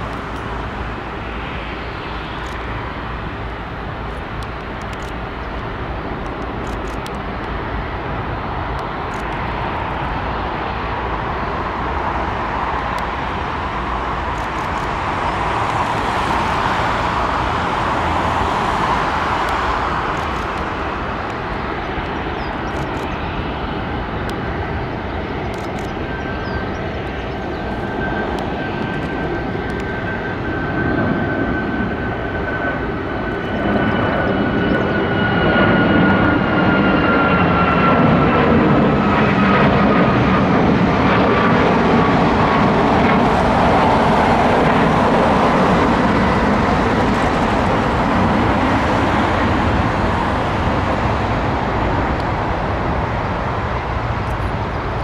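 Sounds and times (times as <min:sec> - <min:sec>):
jet engines at takeoff: 0:00.0 - 0:55.0.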